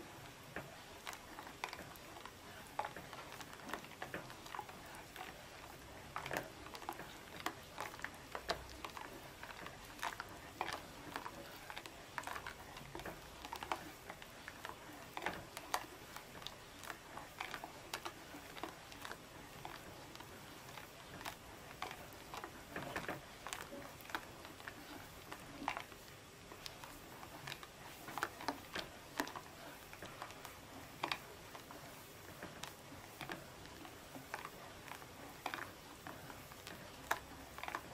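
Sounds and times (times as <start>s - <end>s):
spatula scraping custard in saucepan: 0.0s - 37.9s.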